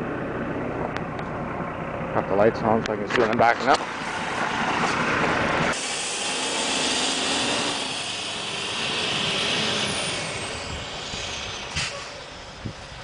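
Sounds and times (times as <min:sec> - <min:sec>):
heavy vehicle engine with whine: 0:00.0 - 0:13.0.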